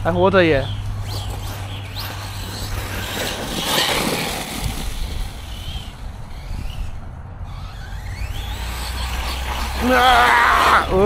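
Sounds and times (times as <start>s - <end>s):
steady rush of noise: 0.0s - 11.0s
rc truck motor whining: 0.6s - 11.0s.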